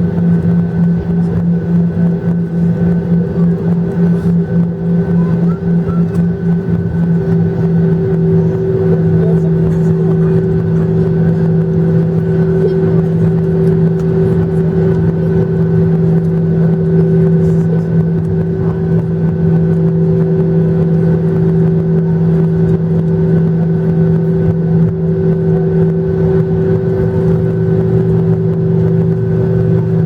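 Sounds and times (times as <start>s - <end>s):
airplane cabin drone: 0.0s - 30.0s.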